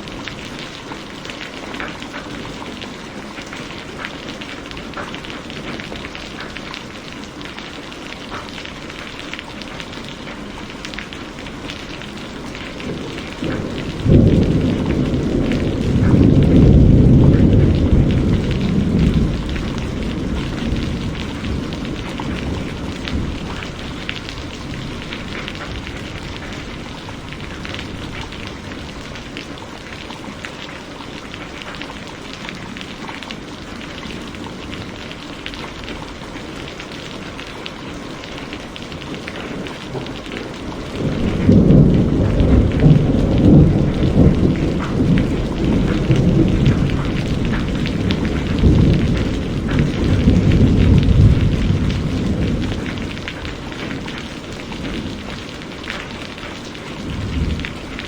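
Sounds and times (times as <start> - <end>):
heavy rain: 0.0 - 58.0
thunder rumbling: 10.5 - 30.4, 31.3 - 58.0.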